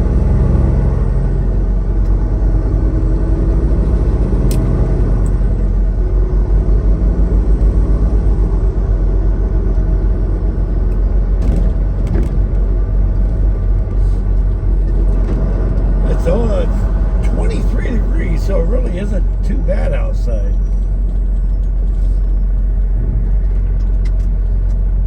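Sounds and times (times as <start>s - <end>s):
truck diesel engine droning: 0.0s - 25.0s.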